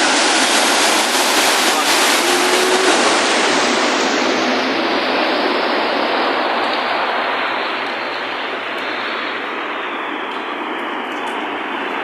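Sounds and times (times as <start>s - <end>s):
heavy rain: 0.0s - 12.0s
water rushing on flooded road: 0.0s - 12.0s.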